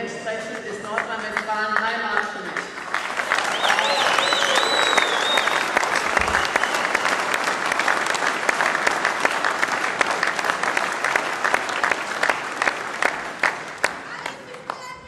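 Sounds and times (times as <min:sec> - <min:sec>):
audience applauding: 0:00.5 - 0:15.0.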